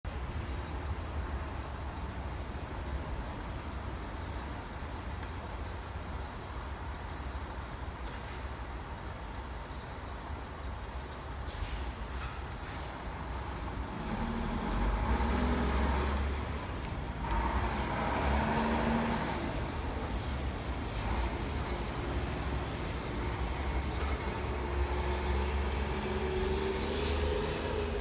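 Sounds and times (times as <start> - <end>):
engine low rumble: 0.1 - 28.0.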